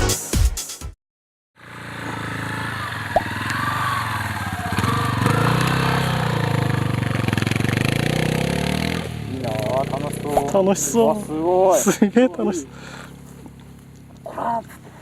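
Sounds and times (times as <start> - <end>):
motorcycle engine running: 1.6 - 15.0.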